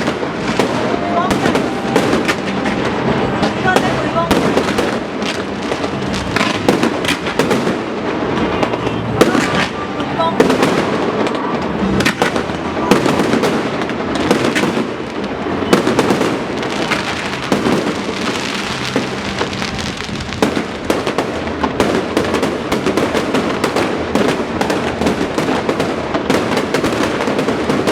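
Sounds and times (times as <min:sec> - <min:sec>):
continuous rumbling din: 0:00.0 - 0:27.9
fireworks crackle: 0:00.0 - 0:27.9
fireworks cracks and bangs: 0:00.0 - 0:27.9.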